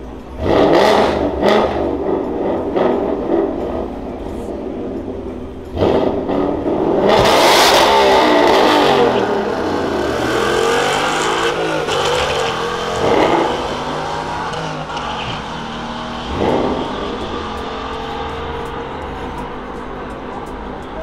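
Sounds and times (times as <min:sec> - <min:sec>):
drag car engines at full throttle: 0:00.0 - 0:21.0.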